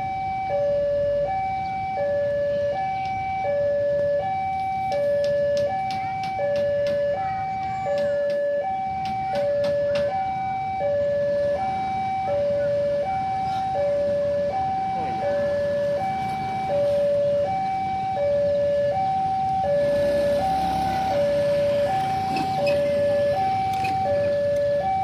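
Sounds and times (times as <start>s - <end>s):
level crossing two-tone alarm: 0.0s - 25.0s.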